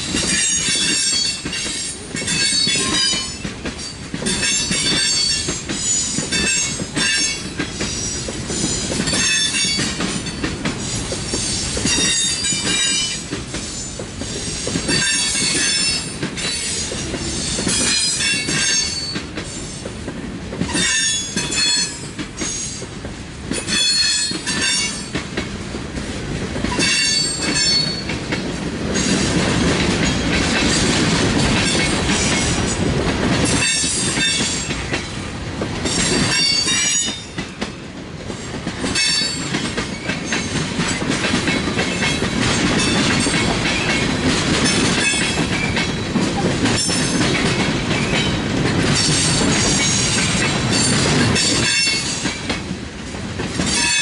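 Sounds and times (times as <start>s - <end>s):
freight train cars rumbling: 0.0s - 54.0s.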